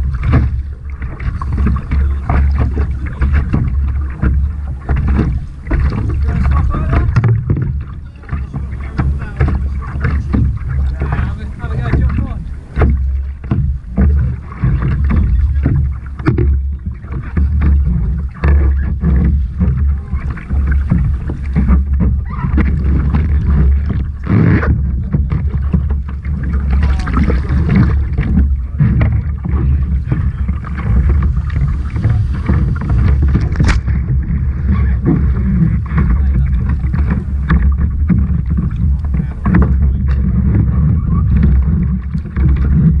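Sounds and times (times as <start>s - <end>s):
water slapping against kayak hull: 0.0s - 43.0s
wind buffeting microphone: 0.0s - 43.0s.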